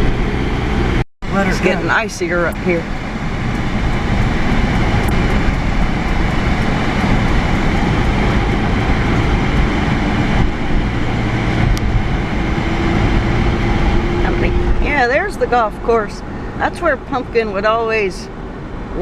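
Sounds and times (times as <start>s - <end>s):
car tyre and engine noise: 0.0s - 19.0s.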